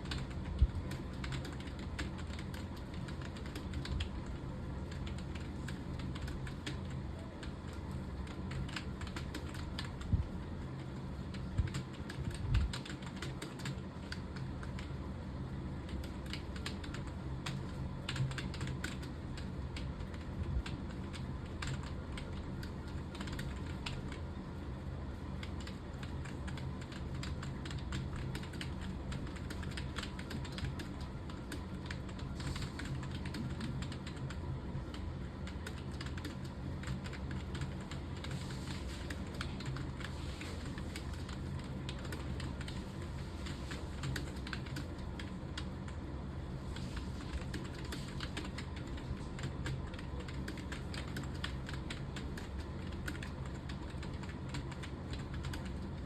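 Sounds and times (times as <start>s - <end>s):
keyboard typing: 0.0s - 24.4s, 25.1s - 56.0s
steady low hum: 0.0s - 56.0s.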